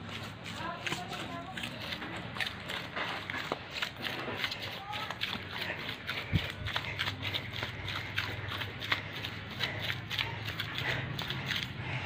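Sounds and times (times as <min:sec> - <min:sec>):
feet squelching in wet clay: 0:00.0 - 0:12.0.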